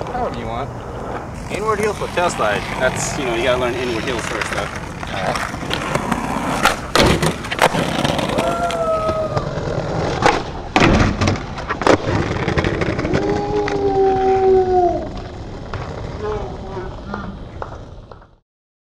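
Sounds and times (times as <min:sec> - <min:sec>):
skateboard wheels rolling on concrete: 0:00.0 - 0:18.4
skateboard clacks: 0:01.1 - 0:14.4, 0:15.0 - 0:18.4.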